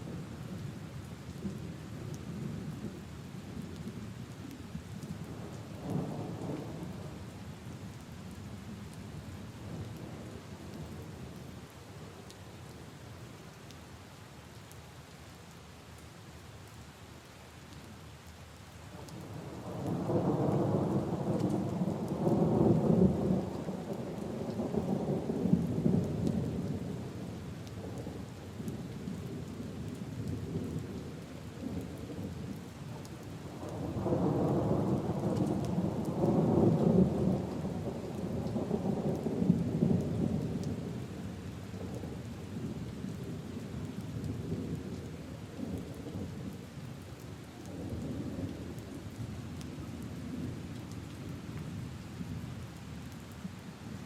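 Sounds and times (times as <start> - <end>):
rain on puddles and leaves: 0.0 - 54.0.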